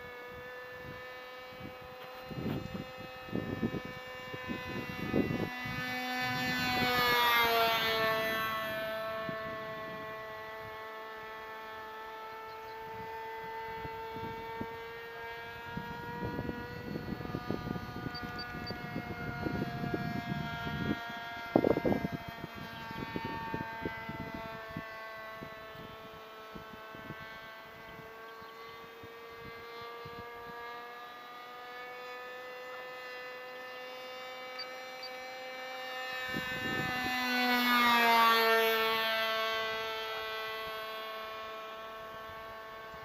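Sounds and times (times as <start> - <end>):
model plane engine droning: 0.0 - 43.0
wind buffeting microphone: 0.3 - 11.1, 12.6 - 30.8, 34.8 - 41.0.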